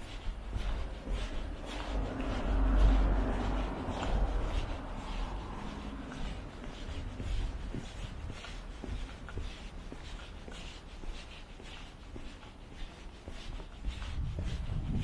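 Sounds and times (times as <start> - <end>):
low outdoor rumble: 0.0 - 12.0
footsteps crunching: 0.0 - 15.0.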